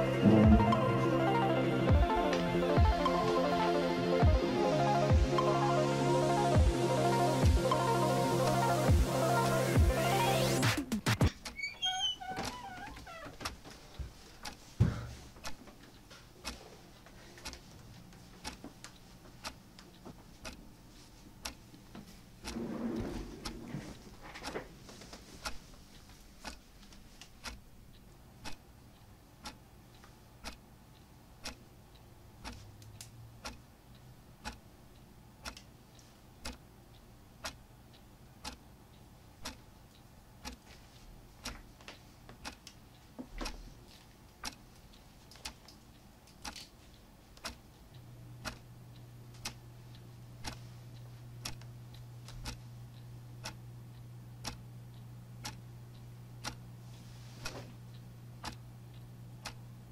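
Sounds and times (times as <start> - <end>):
low steady hum: 0.0 - 10.7, 11.6 - 59.9
clock ticking: 0.0 - 11.6, 15.4 - 16.6, 18.4 - 22.7, 25.4 - 40.7, 41.4 - 41.7, 42.4 - 56.8, 57.5 - 59.9.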